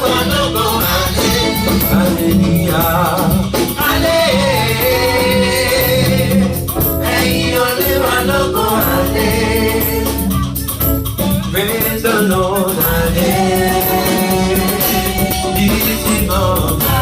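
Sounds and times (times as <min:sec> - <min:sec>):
group singing gospel: 0:00.0 - 0:10.9, 0:11.5 - 0:17.0
steady bass: 0:00.0 - 0:17.0.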